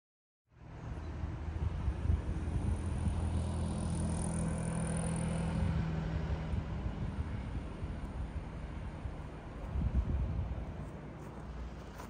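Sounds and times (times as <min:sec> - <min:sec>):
vehicle engine humming: 0:00.6 - 0:12.0.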